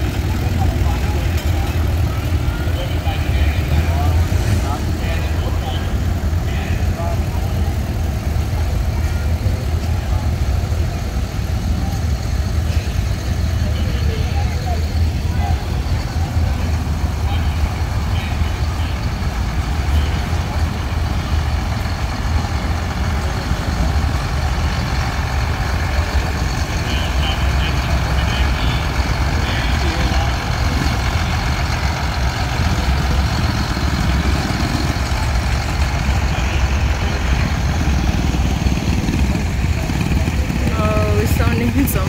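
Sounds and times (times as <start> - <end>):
tractor engine rumbling: 0.0 - 42.0.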